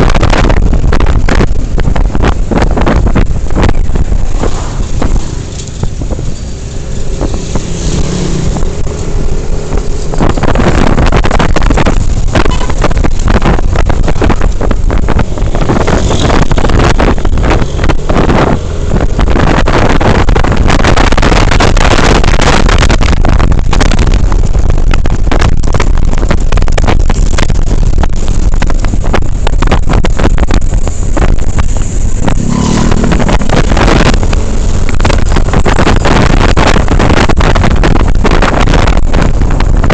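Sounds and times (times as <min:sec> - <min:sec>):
low engine rumble: 0:00.0 - 0:39.9
wind buffeting microphone: 0:00.0 - 0:39.9.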